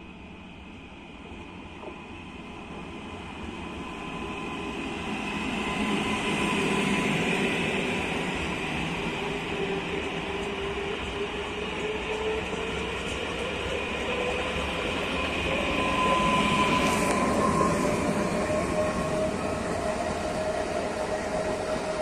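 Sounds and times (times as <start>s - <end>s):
train wheels rumbling on rails: 1.1s - 22.0s.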